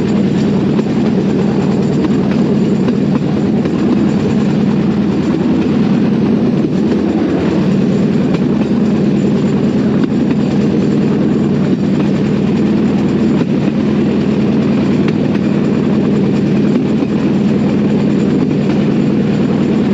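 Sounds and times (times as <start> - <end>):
steel wheels on track: 0.0 - 19.9.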